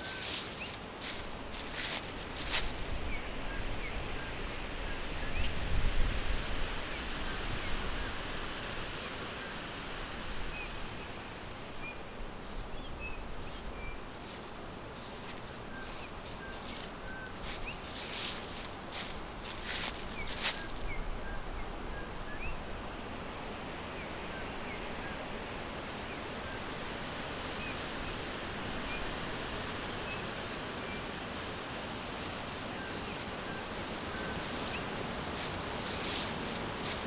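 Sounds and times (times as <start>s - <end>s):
wind rustling leaves: 0.0s - 37.0s.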